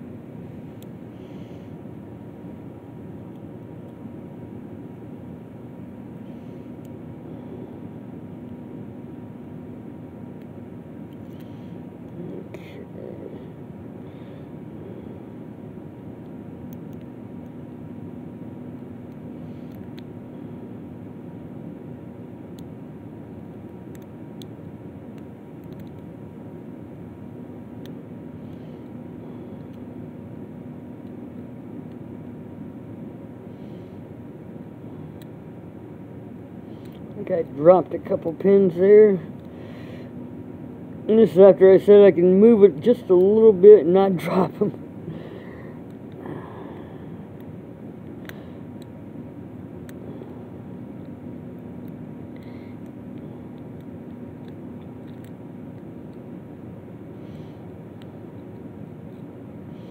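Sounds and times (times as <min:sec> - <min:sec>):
faint hum: 0:00.0 - 0:59.9
low background rumble: 0:00.0 - 0:59.9.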